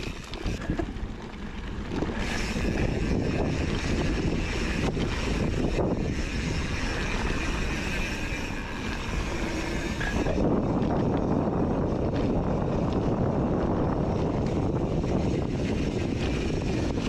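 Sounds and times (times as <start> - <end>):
bike tyres on dirt trail: 0.0 - 17.0
wind rushing over microphone: 1.6 - 17.0.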